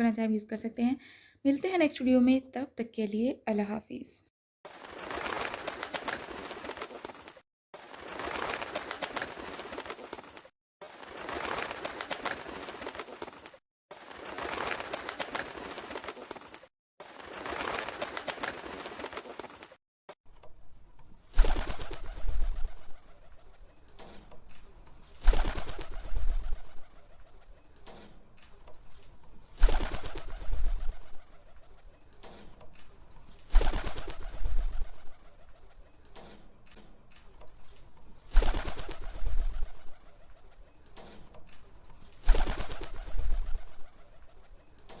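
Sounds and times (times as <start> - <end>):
flapping wings: 4.7 - 19.8, 21.2 - 45.0.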